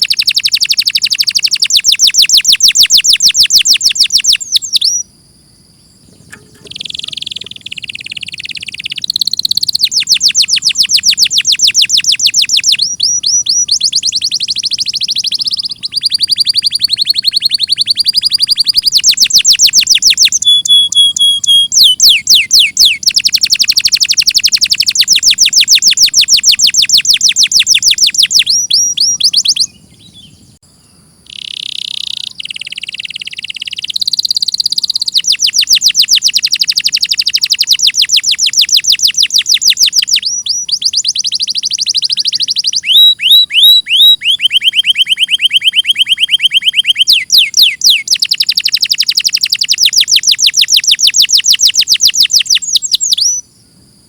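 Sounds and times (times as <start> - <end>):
canary singing: 0.0 - 5.1, 5.8 - 30.6, 31.2 - 53.4.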